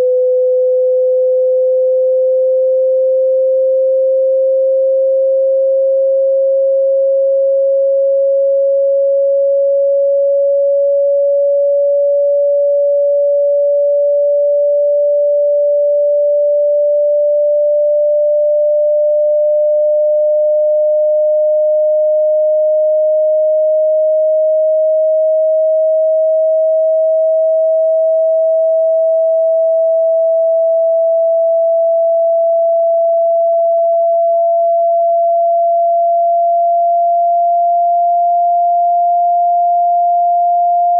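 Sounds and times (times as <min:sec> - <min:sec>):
sine tone rising in pitch: 0:00.0 - 0:40.9.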